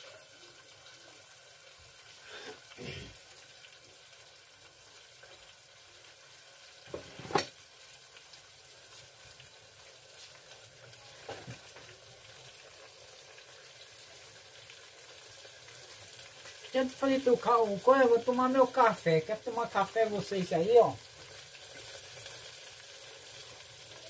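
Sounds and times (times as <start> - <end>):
fish frying in hot oil: 0.0 - 24.0.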